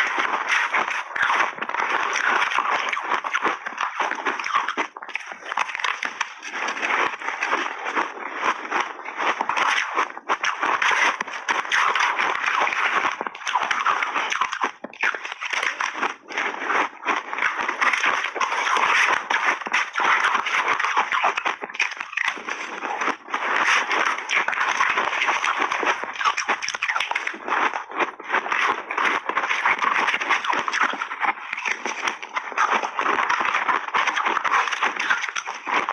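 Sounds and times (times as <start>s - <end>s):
crunching shaved ice: 0.2s - 10.8s, 11.6s - 23.2s, 23.9s - 35.8s.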